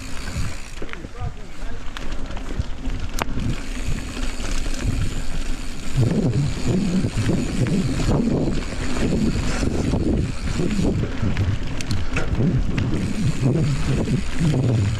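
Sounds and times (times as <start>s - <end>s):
bike tyres rolling over dirt: 0.0s - 14.9s
wind buffeting microphone: 0.0s - 14.9s.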